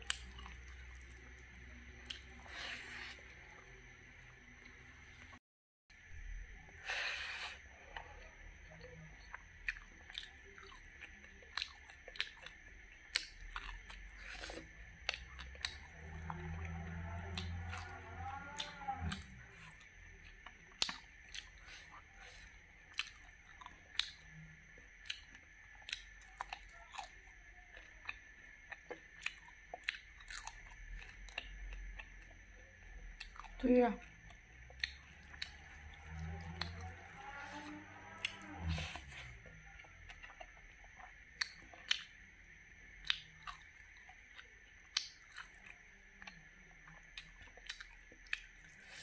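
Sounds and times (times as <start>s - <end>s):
crunchy chewing: 0.0s - 5.4s, 6.7s - 49.0s.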